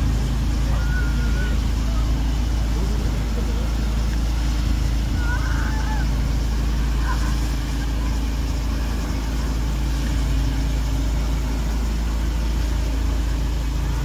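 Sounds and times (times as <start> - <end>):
vehicle engine running in water: 0.0 - 14.0.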